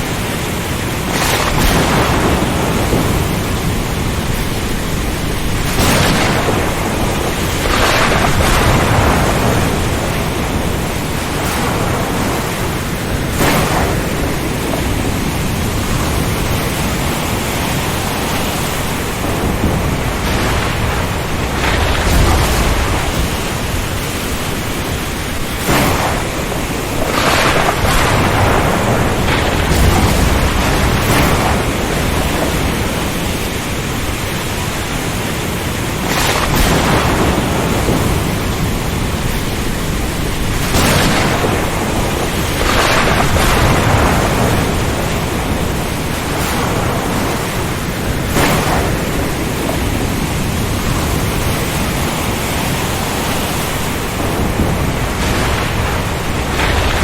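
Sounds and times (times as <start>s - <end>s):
rain: 0.0s - 57.0s
wind: 0.0s - 57.0s.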